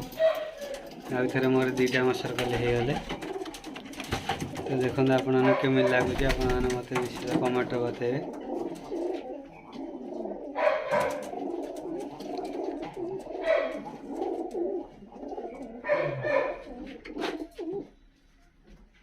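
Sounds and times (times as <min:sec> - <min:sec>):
pigeons cooing: 0:00.0 - 0:18.2
pigeons scuffling: 0:00.0 - 0:19.0.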